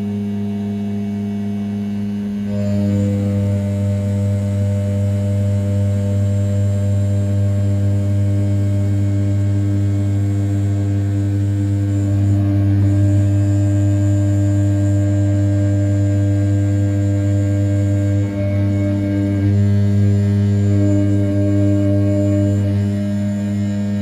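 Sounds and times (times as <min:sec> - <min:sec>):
milling spindle humming: 0:02.4 - 0:24.0.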